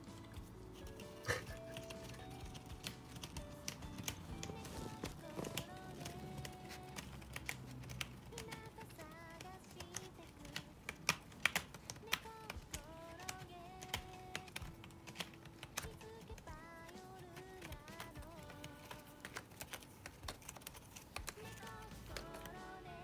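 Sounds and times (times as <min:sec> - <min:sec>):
soft background music: 0:00.0 - 0:23.0
cat claws scratching cardboard: 0:00.8 - 0:22.6.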